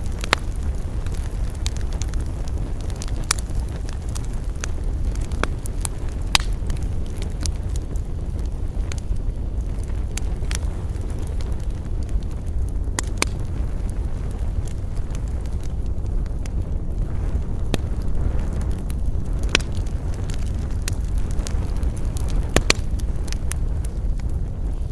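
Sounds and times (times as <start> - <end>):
campfire crackling and popping: 0.0 - 24.9
fire low rumble: 0.0 - 24.9.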